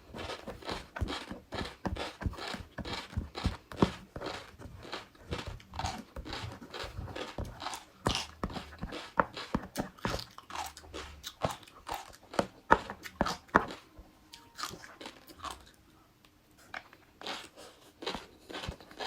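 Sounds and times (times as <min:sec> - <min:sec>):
chewing crunchy food: 0:00.0 - 0:15.8, 0:16.6 - 0:19.0.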